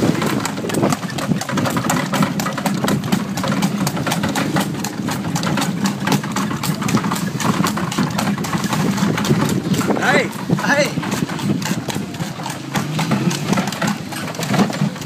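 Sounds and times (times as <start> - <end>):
horse-drawn cart clattering: 0.0 - 15.0.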